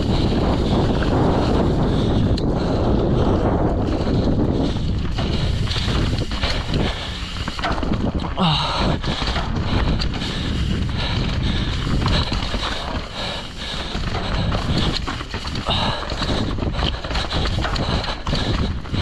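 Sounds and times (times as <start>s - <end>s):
mountain bike rumble and clatter: 0.0s - 19.0s
wind buffeting microphone: 0.0s - 19.0s.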